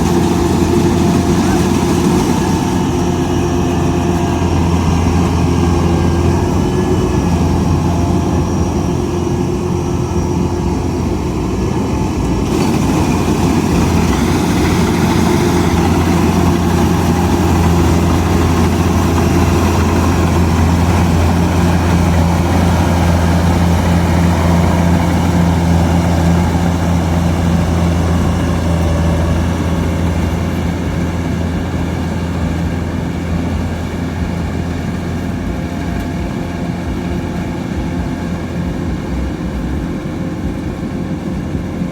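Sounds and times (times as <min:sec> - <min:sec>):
combine harvester diesel hum: 0:00.0 - 0:41.9.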